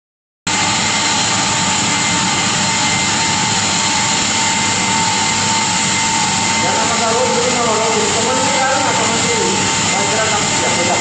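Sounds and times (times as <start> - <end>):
machine hiss with high whine: 0.5 - 11.0.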